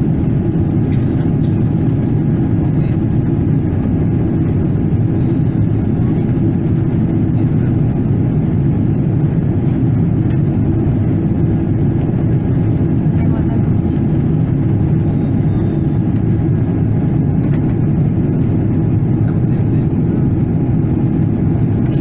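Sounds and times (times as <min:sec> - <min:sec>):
airplane cabin engine rush: 0:00.0 - 0:22.0.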